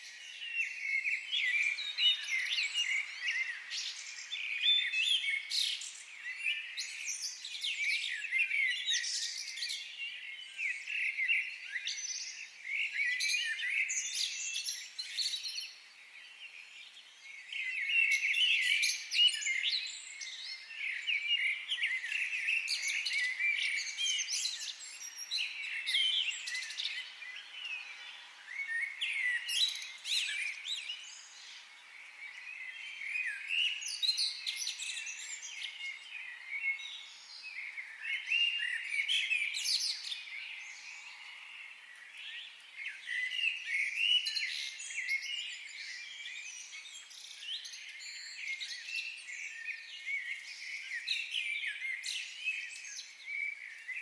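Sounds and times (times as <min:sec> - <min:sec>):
birds chirping and warbling: 0:00.0 - 0:54.0.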